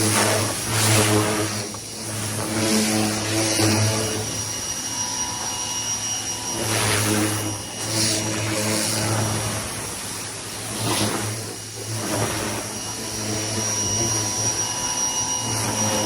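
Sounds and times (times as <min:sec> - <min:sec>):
pressure washer motor hum: 0:00.0 - 0:16.0.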